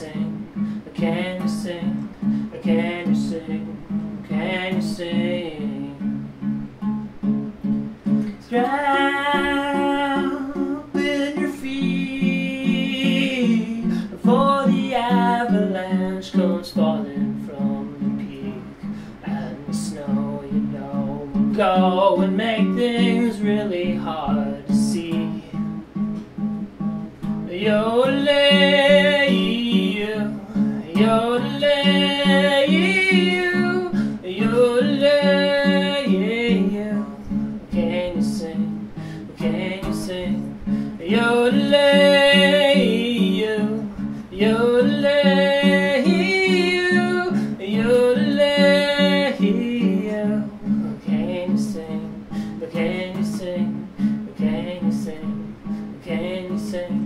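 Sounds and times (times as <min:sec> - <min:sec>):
man singing: 0:00.0 - 0:06.6, 0:08.1 - 0:26.2, 0:27.2 - 0:57.0
acoustic guitar strumming: 0:00.0 - 0:57.0.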